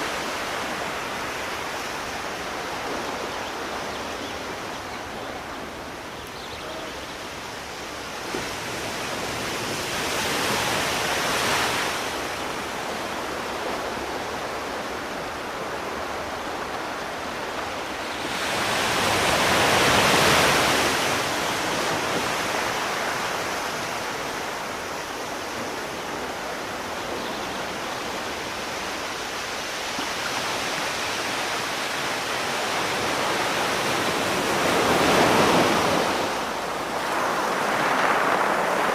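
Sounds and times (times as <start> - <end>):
sea surf washing: 0.0 - 38.9
waves surging in: 0.0 - 38.9.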